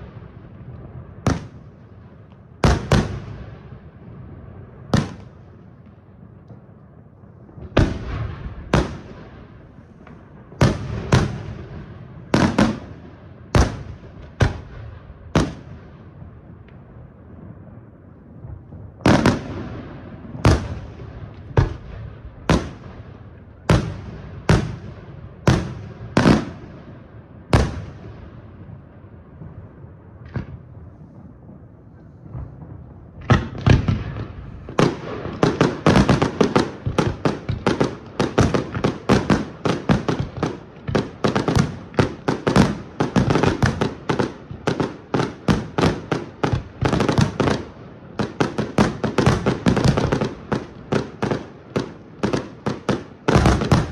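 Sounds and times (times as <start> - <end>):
rapid string of firework bangs: 0.0 - 3.6, 4.8 - 6.7, 7.4 - 16.6, 17.3 - 26.8, 27.5 - 53.9.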